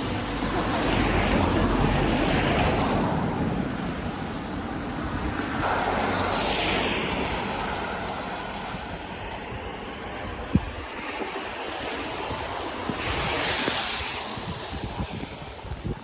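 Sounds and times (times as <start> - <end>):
rain: 0.0 - 15.6
wind on microphone: 0.0 - 16.0.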